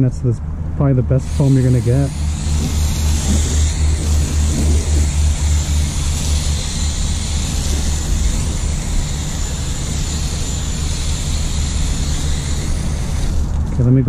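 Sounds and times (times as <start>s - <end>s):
low rumble: 0.0s - 14.0s
foam gun hissing spray: 1.2s - 13.6s.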